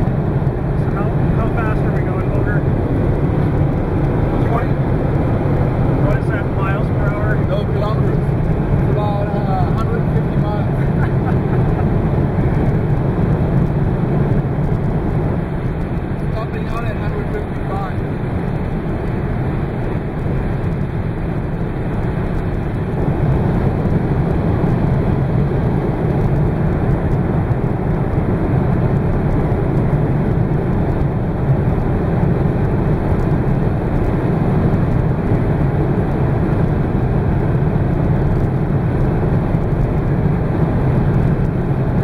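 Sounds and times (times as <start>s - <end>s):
car engine running: 0.0s - 42.0s
wind noise: 0.0s - 42.0s.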